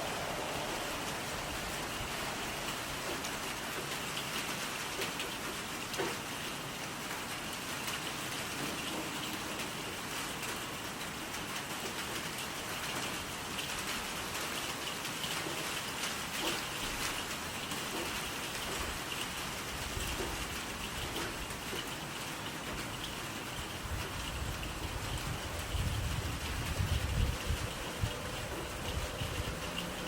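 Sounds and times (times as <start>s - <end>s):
raindrops ticking on surfaces: 0.0s - 30.0s
steady rain falling: 0.0s - 30.0s.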